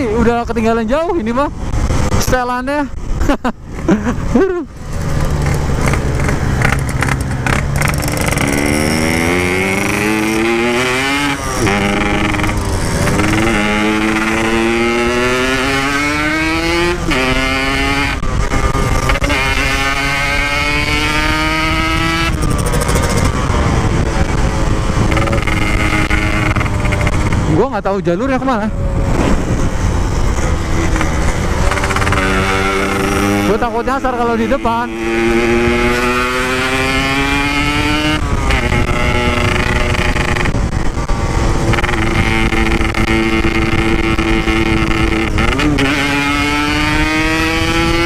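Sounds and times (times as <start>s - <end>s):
motorcycle accelerating through gears: 4.7s - 48.0s.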